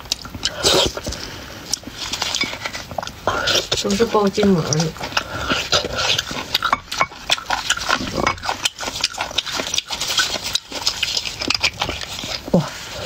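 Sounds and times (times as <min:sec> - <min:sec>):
wet chewing and slurping: 0:00.0 - 0:13.0
metal spoon scraping bone: 0:02.0 - 0:12.5.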